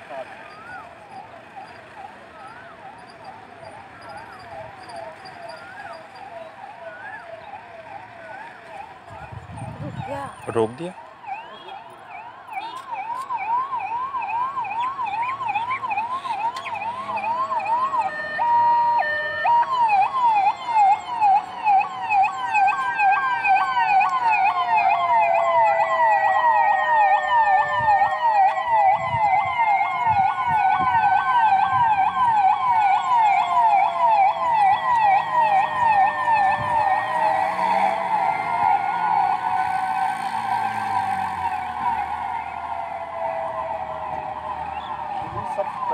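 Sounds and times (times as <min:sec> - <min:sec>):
siren yelping: 0:00.0 - 0:45.9
sirens wailing: 0:00.0 - 0:45.9.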